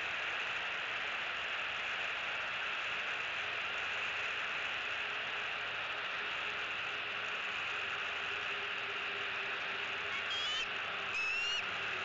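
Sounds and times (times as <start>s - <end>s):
steady microphone hiss: 1.4s - 12.0s.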